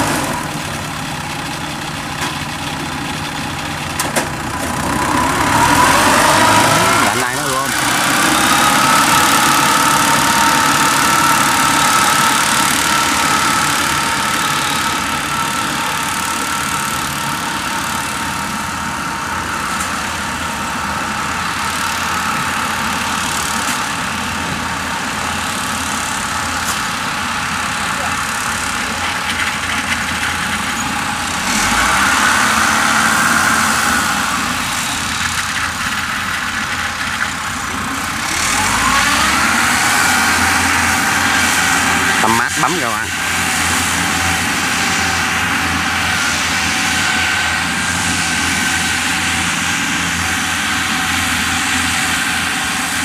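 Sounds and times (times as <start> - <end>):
tracked vehicle engines running: 0.0 - 53.0.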